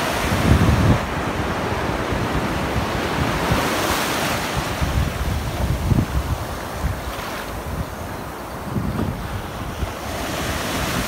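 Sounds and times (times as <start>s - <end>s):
ocean surf washing in: 0.0s - 11.0s
wind buffeting microphone: 0.0s - 11.0s.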